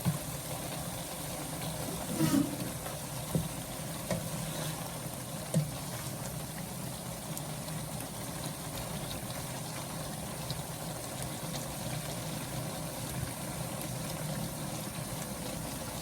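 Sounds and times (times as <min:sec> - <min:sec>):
noodles sizzling in a pan: 0:00.0 - 0:16.0.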